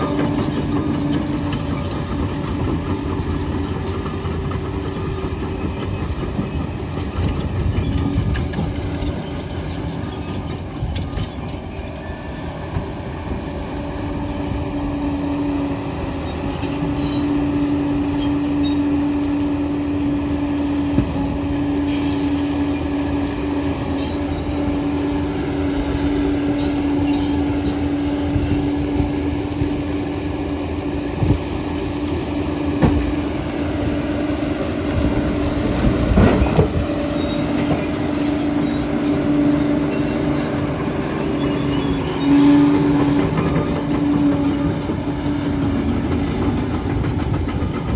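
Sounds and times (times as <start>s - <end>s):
diesel engine whining under load: 0.0s - 47.9s
steel tracks squealing and clanking: 0.0s - 47.9s.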